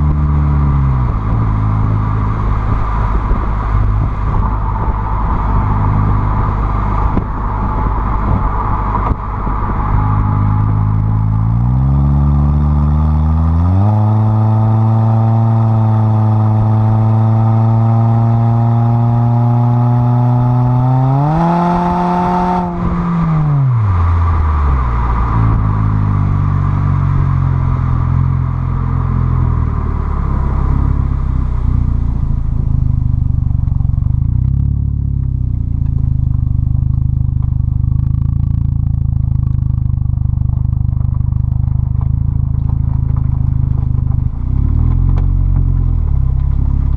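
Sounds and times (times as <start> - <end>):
car exhaust while driving: 0.0 - 46.9
gravel clicking under tyres: 0.0 - 46.9.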